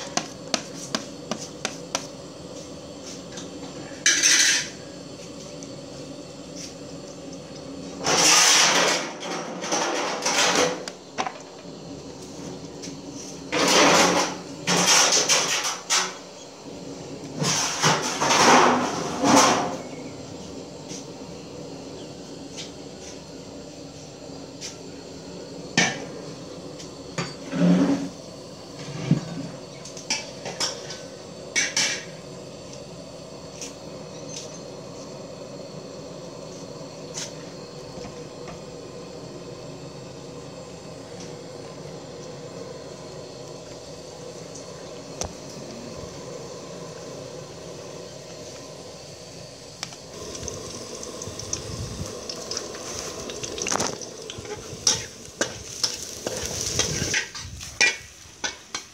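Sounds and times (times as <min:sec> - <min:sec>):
garlic sizzling in oil: 0:00.0 - 0:58.9.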